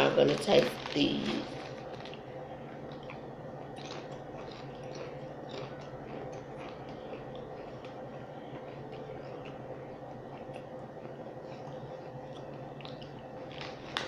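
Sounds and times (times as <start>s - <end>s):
low hum: 0.0s - 14.0s
person chewing crunchy chips: 0.0s - 14.0s.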